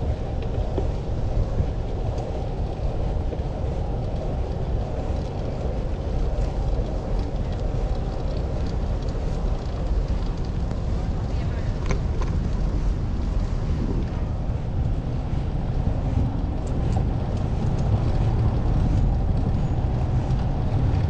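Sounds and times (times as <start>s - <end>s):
bicycle road noise: 0.0s - 21.0s
wind on microphone: 0.0s - 21.0s.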